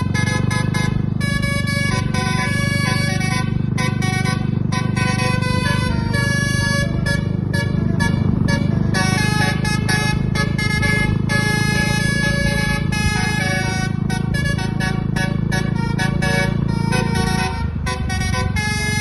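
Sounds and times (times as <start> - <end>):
bus musical air horn melody: 0.0 - 19.0
steady low rumble: 0.0 - 19.0.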